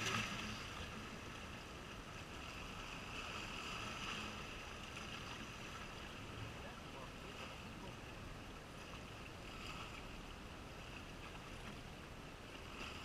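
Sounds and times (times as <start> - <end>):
calm sea: 0.0 - 13.0.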